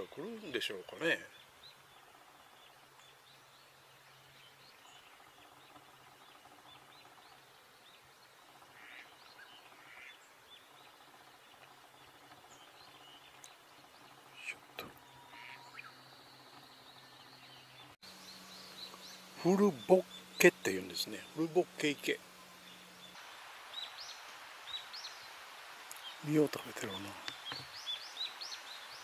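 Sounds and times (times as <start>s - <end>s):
bird chirps and calls: 0.0s - 29.0s.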